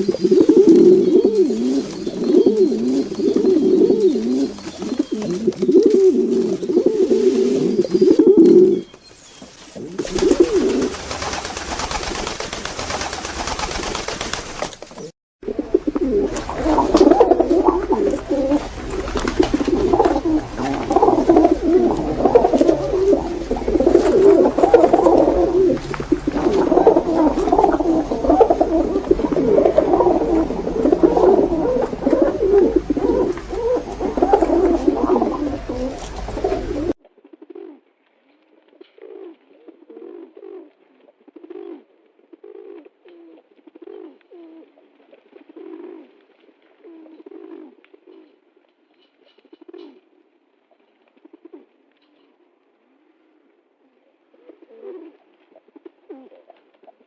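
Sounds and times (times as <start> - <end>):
pigeons cooing: 0.0 - 37.8, 38.8 - 46.2, 46.8 - 48.4, 49.2 - 50.0, 53.8 - 57.0.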